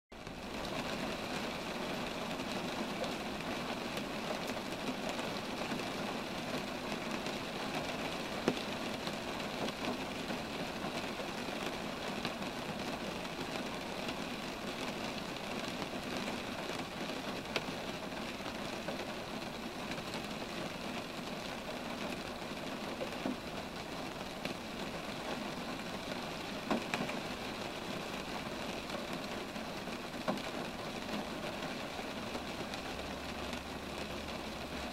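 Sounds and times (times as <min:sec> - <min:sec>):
rain falling on trees: 0:00.1 - 0:34.9.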